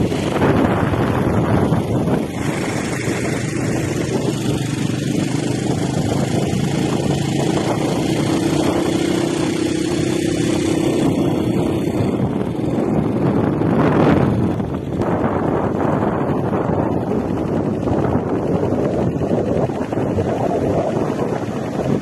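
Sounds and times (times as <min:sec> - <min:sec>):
motor engine running: 0:00.0 - 0:22.0
wind noise on microphone: 0:00.0 - 0:22.0.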